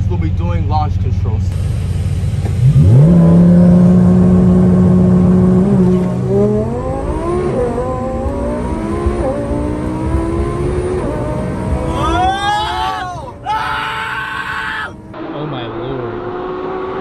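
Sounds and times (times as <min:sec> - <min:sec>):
car engine revving and accelerating: 0:01.5 - 0:13.5, 0:14.9 - 0:17.0.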